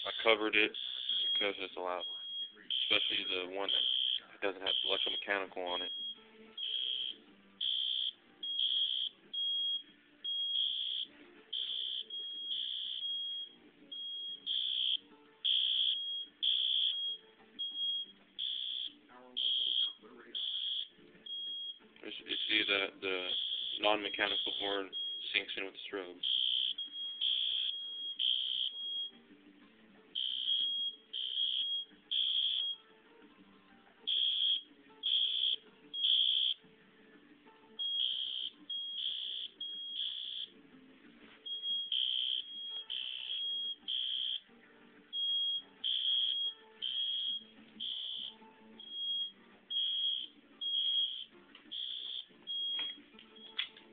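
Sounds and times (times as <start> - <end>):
smoke alarm beeping: 0.0 - 25.6, 26.2 - 29.2, 30.2 - 32.9, 34.1 - 36.6, 37.8 - 40.5, 41.4 - 44.5, 45.1 - 53.7
fire alarm horn beeping: 0.7 - 25.5, 26.2 - 29.1, 30.2 - 32.8, 34.1 - 36.6, 37.8 - 40.5, 41.5 - 44.5, 45.1 - 53.6.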